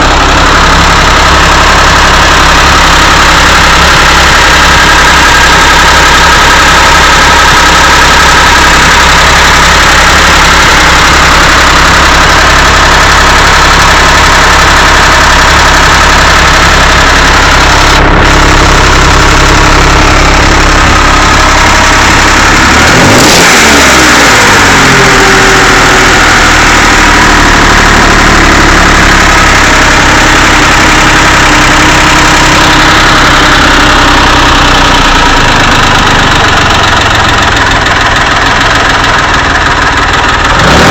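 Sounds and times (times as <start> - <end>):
car engine idling and revving: 0.0 - 40.9
engine knocking and ticking: 0.0 - 40.9.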